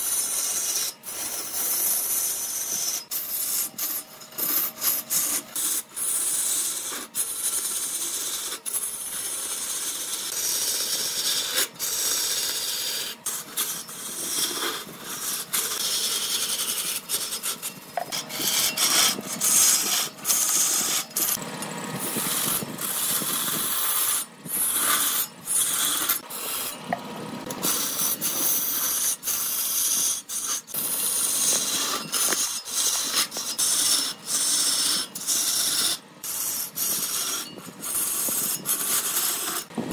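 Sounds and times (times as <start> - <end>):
lathe tool scraping wood: 0.0 - 39.9.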